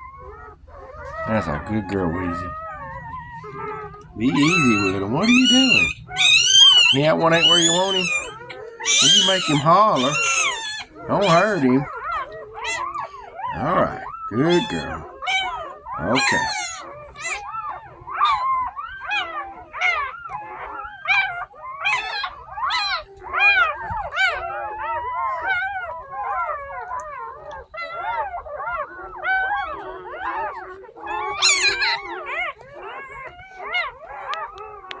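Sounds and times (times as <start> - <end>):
puppies whining: 0.0 - 35.0.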